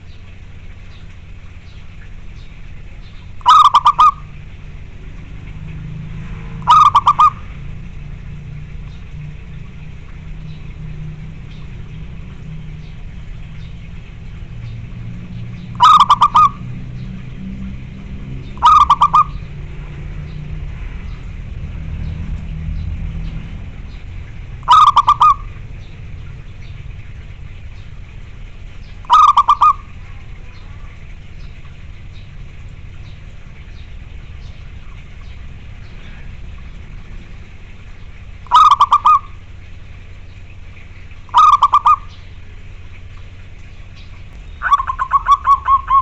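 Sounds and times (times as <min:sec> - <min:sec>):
steady low rumble: 0:00.0 - 0:46.0
dove cooing in staccato bursts: 0:02.8 - 0:10.4, 0:11.0 - 0:21.9, 0:23.5 - 0:43.6, 0:44.6 - 0:46.0.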